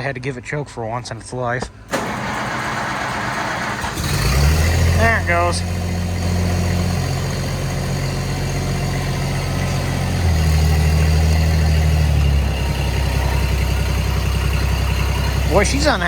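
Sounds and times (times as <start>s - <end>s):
tractor engine running unevenly: 1.9s - 16.0s.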